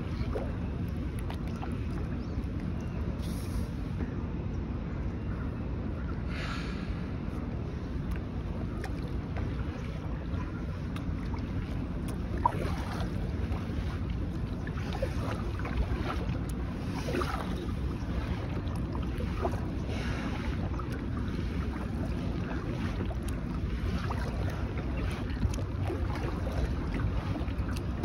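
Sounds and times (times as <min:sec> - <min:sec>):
paddle strokes in water: 0:00.0 - 0:04.2, 0:07.3 - 0:28.0.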